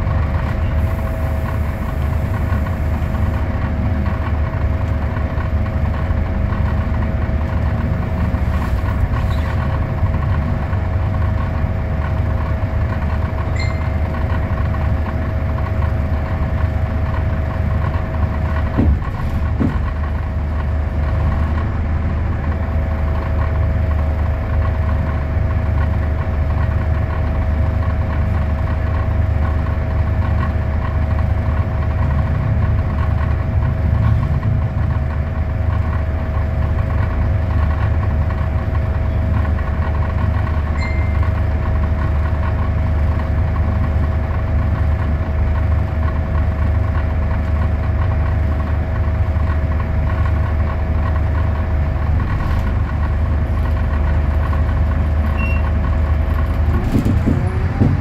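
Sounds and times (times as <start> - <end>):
bus diesel engine hum: 0.0 - 58.0.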